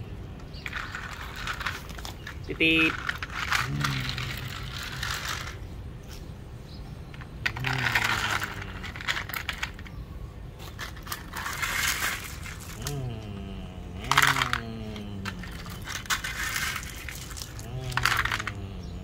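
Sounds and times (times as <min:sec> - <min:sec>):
gravel rattling in plastic toys: 0:00.5 - 0:06.2, 0:07.1 - 0:10.0, 0:10.6 - 0:19.0
toy trucks scraping on concrete: 0:00.6 - 0:05.6, 0:07.2 - 0:09.9, 0:10.6 - 0:13.4, 0:14.0 - 0:18.8.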